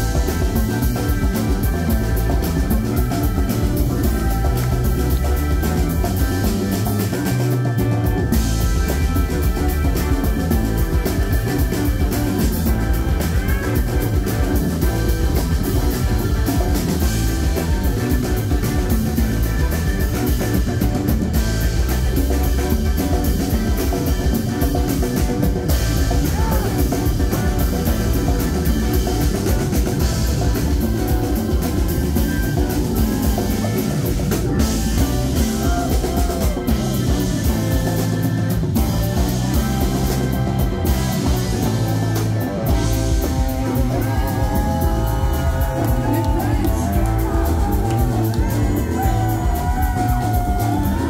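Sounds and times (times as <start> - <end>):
drum kit beat: 0.0 - 51.0
electric guitar: 0.0 - 51.0
organ: 0.0 - 51.0
rock band playing: 0.0 - 51.0.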